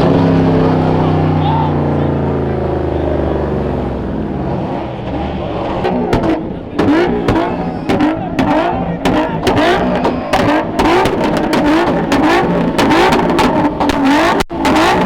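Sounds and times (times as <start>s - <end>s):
car engine revving in blips: 0.0s - 15.0s.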